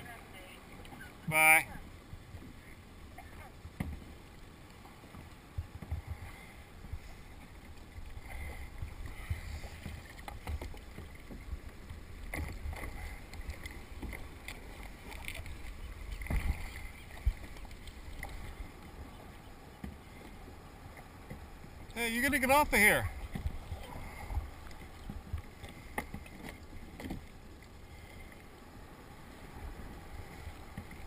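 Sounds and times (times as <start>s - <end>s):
water splashing against kayak hull: 0.0s - 31.0s.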